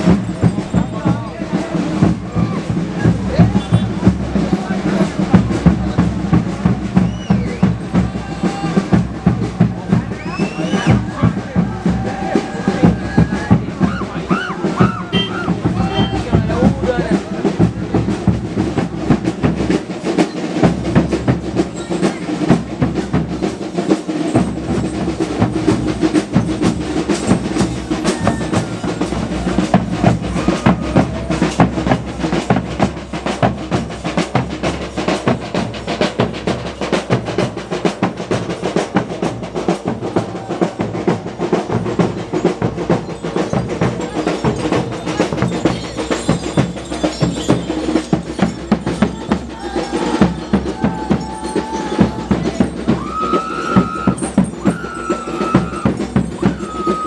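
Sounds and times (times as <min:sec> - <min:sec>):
percussion ensemble drumming: 0:00.0 - 0:57.0.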